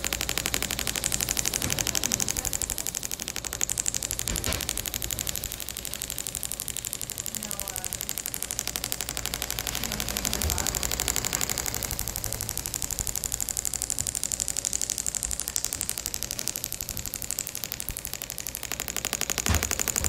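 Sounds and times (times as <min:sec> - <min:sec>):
rapid sharp clicks: 0:00.0 - 0:20.0.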